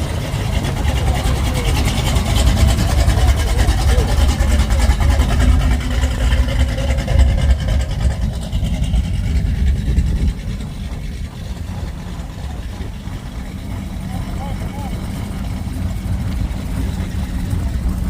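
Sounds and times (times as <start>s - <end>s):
car engine running: 0.0s - 18.0s
voices: 0.0s - 18.0s.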